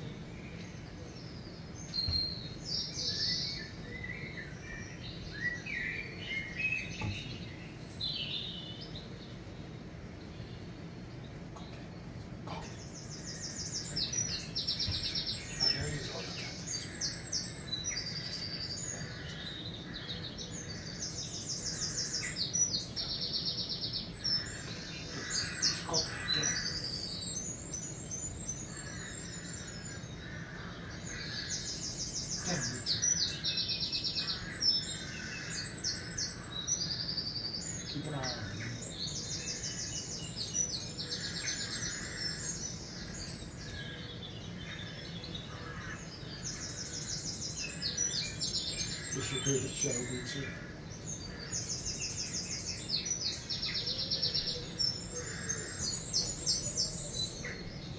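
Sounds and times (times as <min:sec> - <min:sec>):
birdsong from tv speakers: 0:00.0 - 0:57.9.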